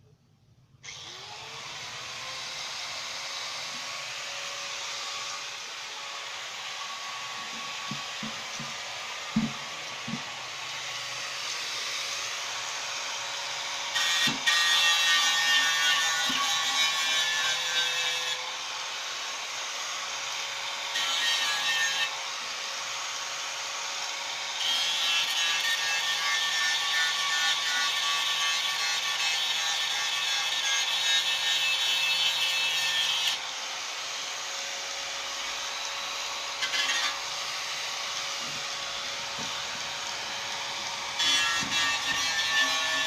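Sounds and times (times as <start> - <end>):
power tool humming: 0.8 - 43.0.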